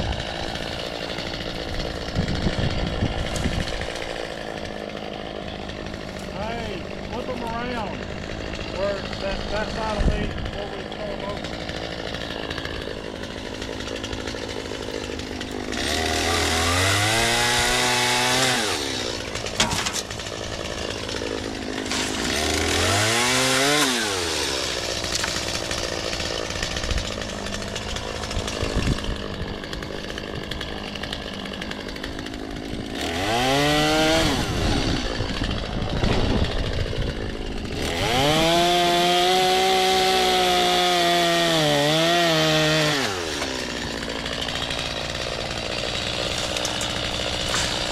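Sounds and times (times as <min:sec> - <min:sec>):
chainsaw idling and revving: 0:00.0 - 0:47.9.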